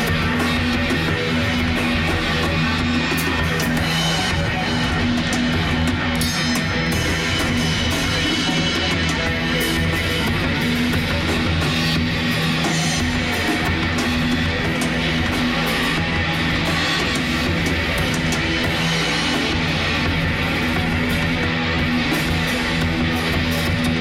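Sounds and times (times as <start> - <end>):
drum kit with cymbals: 0.0 - 24.0
electric guitar: 0.0 - 24.0.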